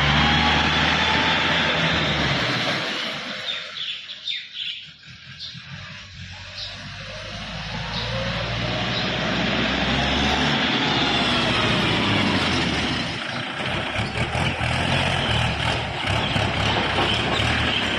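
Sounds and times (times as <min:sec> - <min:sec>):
engine whine: 0:00.0 - 0:17.9
tractor diesel engine revving: 0:00.0 - 0:17.9.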